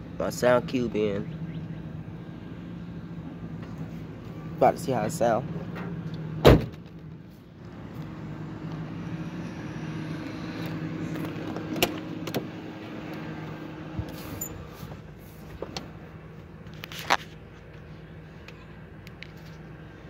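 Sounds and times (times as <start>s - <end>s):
car humming: 0.0s - 20.0s.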